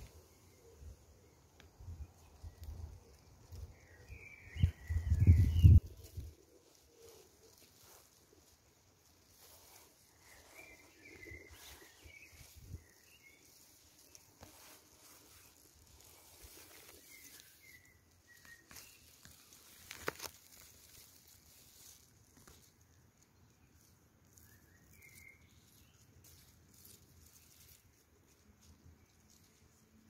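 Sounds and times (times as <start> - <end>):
faint bird chirps: 0.0 - 30.0
leaves rustling: 0.0 - 30.0.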